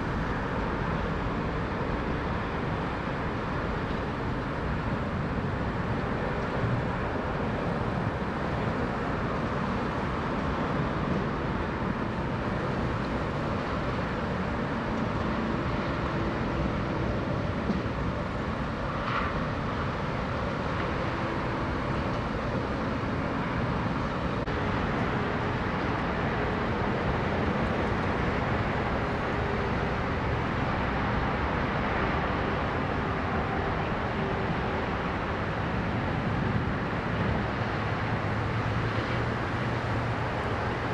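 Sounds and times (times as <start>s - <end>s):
highway traffic: 0.0s - 40.9s.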